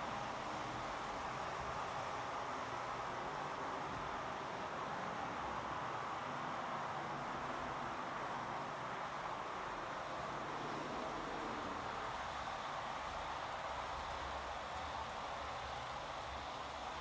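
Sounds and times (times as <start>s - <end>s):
model train wheels rolling on rails: 0.0s - 17.0s.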